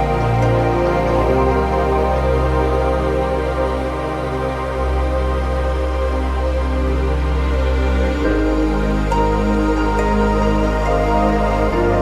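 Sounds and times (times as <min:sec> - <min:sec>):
soft new-age music: 0:00.0 - 0:12.0.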